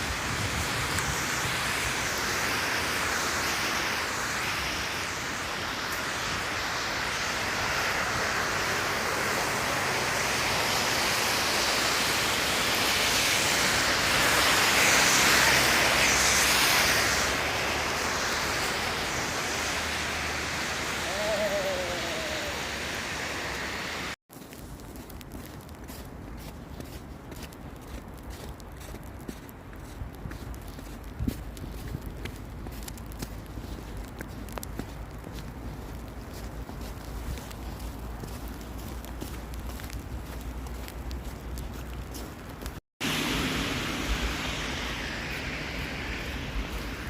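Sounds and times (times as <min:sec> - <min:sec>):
blizzard wind blowing: 0:00.0 - 0:47.0.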